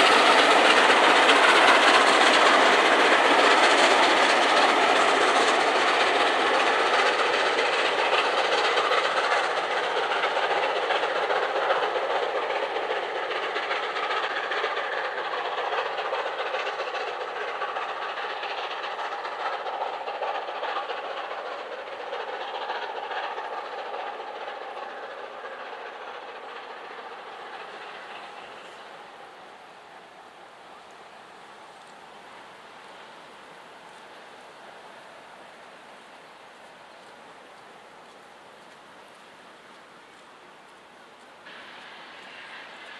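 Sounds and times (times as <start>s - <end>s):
train wheels clattering on rails: 0.0s - 42.9s.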